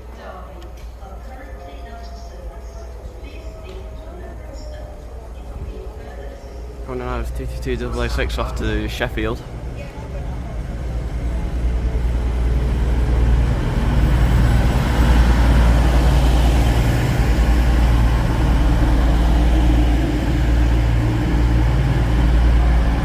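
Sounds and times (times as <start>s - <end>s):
diesel train engines rumbling: 0.0s - 23.0s.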